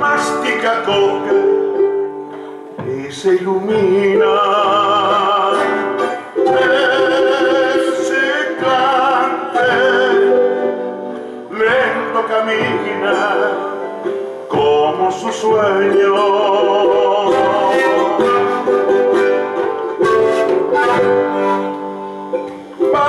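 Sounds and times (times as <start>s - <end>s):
guitar strumming: 0.0s - 23.0s
man singing with vibrato: 0.0s - 23.0s
pan flute melody: 0.0s - 23.0s.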